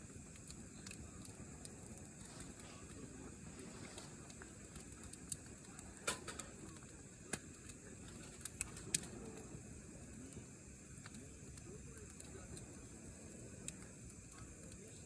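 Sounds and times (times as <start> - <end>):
campfire crackling: 0.0 - 15.0
campfire pops and snaps: 0.0 - 15.0.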